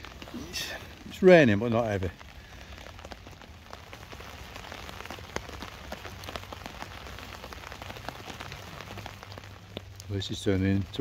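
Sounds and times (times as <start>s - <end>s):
light rain on a tarp: 0.0s - 11.0s.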